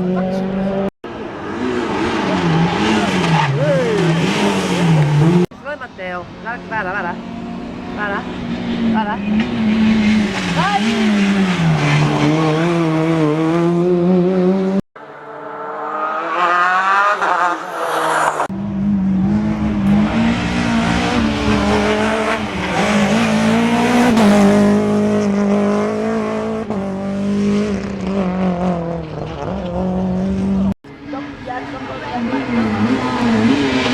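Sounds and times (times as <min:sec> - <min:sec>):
rally car engines at high revs: 0:00.0 - 0:05.5, 0:06.4 - 0:33.9.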